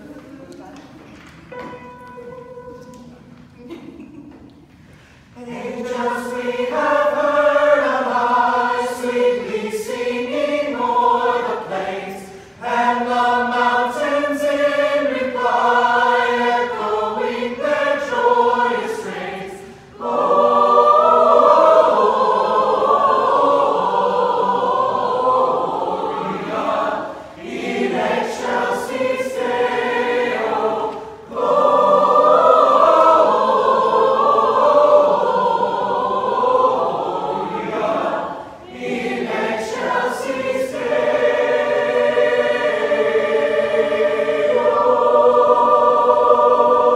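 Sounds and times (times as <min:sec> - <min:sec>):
mixed choir singing unaccompanied: 0:05.3 - 0:46.9.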